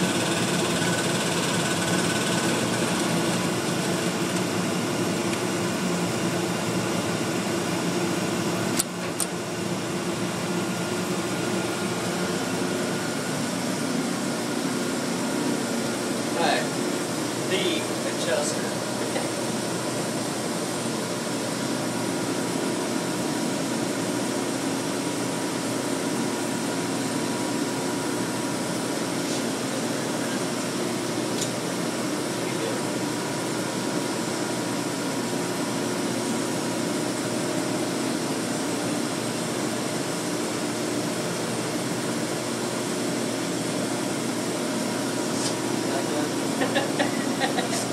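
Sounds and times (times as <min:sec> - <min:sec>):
machine cabinet hum and fan: 0:00.0 - 0:47.9.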